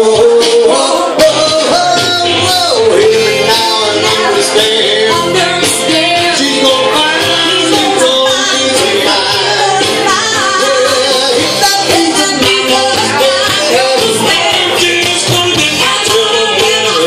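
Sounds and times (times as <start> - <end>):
man singing into microphone: 0.0 - 17.0
recorded backing track: 0.0 - 17.0
woman singing into microphone: 0.0 - 17.0.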